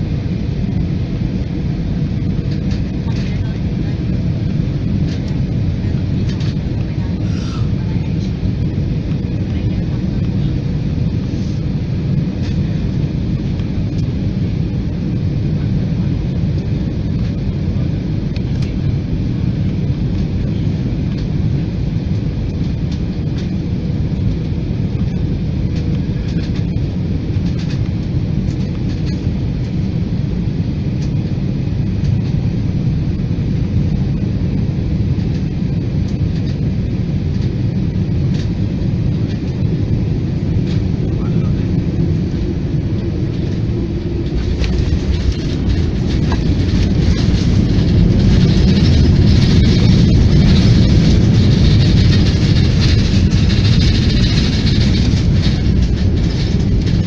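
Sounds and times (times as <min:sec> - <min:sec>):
rushing air: 0:00.0 - 0:18.2, 0:19.1 - 0:57.0
jet engines rumbling: 0:00.0 - 0:57.0.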